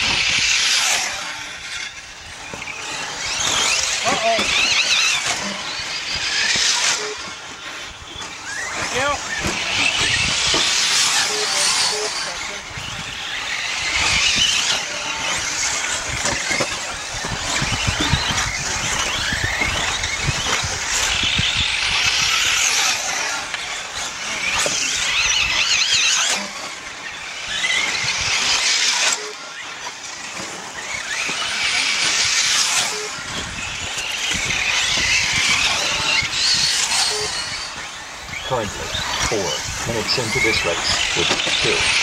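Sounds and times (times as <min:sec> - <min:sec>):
rc car motors whining: 0:00.0 - 0:42.0.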